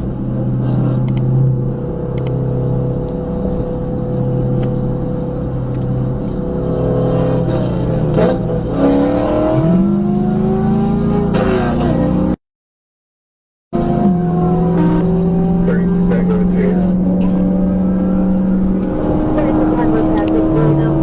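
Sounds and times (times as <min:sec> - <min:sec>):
car engine accelerating hard: 0:00.0 - 0:03.1, 0:04.3 - 0:12.4, 0:13.8 - 0:21.0.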